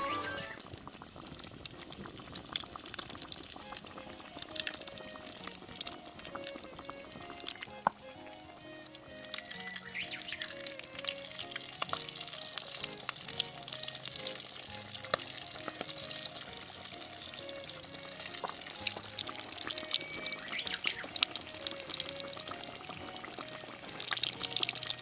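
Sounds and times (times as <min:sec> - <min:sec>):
deep-frying sizzle with crackles: 0:00.0 - 0:25.0.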